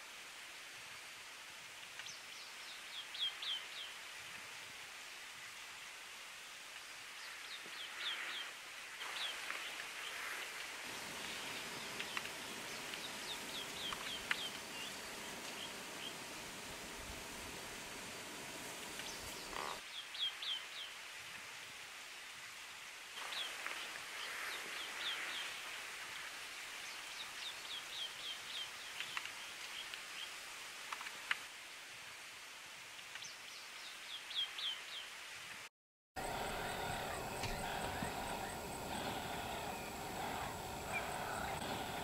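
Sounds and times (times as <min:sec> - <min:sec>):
faint background hiss: 0:00.0 - 0:42.0.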